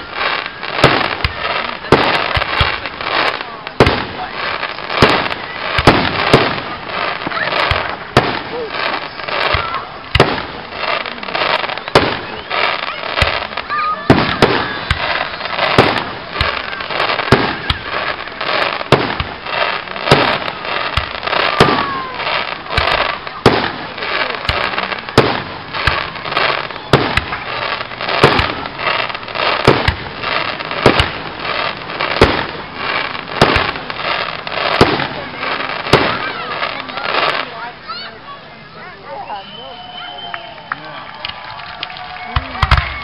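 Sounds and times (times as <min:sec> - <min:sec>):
fireworks bangs: 0:00.0 - 0:43.0
fireworks crackling: 0:00.0 - 0:43.0.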